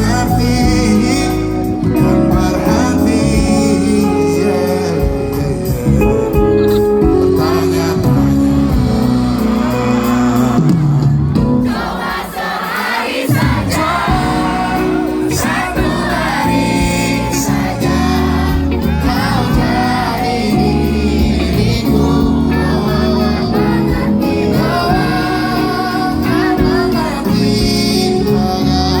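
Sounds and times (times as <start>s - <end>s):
crowd singing along: 0.0s - 29.0s
live pop band playing: 0.0s - 29.0s
loud singing: 0.0s - 29.0s.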